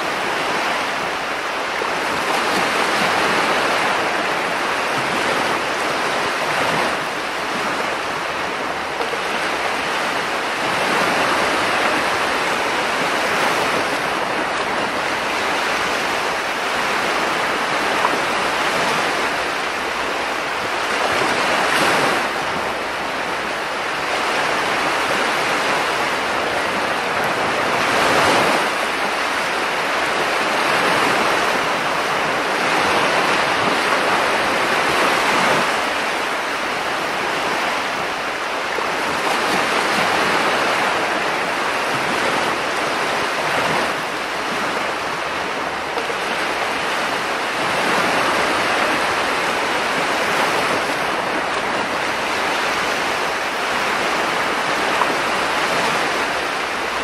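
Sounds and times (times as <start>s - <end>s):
small waves breaking on shore: 0.0s - 57.0s.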